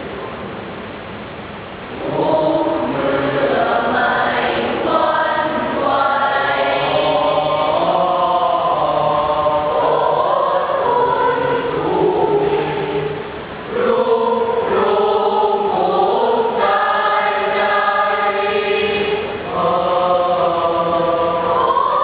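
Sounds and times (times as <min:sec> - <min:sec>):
choir singing in parts: 0:01.9 - 0:22.0.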